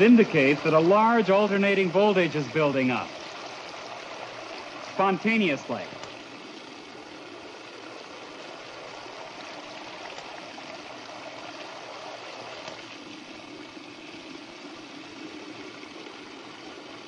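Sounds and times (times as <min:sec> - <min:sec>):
water streams splashing: 0:00.0 - 0:17.0.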